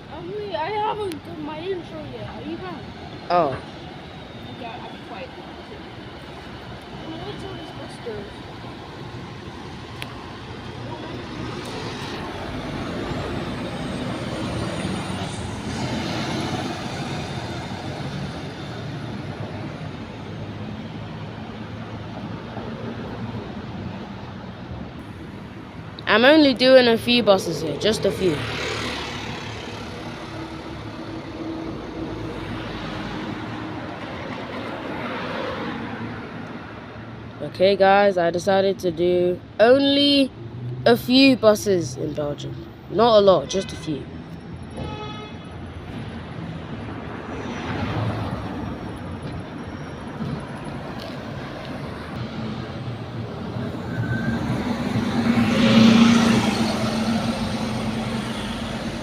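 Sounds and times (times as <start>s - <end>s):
bus engine humming: 0.0s - 59.0s
road noise: 0.0s - 59.0s.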